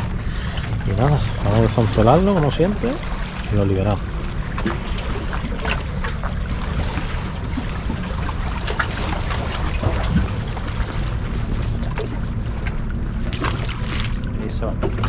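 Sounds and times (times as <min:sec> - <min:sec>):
sea water washing: 0:00.0 - 0:15.0
wind rumbling on microphone: 0:00.0 - 0:15.0
small splashes: 0:00.2 - 0:15.0.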